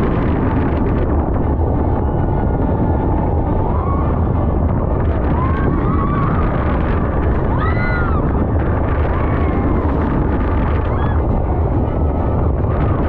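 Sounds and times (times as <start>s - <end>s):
speedboat motors rumbling: 0.0s - 13.0s
wind buffeting microphone: 0.0s - 13.0s.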